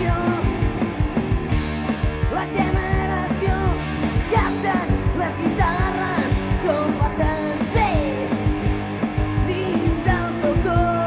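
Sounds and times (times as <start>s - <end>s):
electric guitars: 0.0s - 11.0s
steady drum beat: 0.0s - 11.0s.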